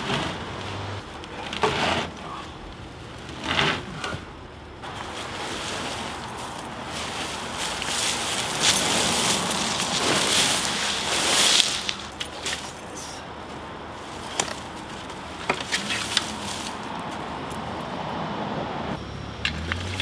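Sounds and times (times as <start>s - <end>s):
plastic tarp and brush rustling: 0.0s - 17.2s.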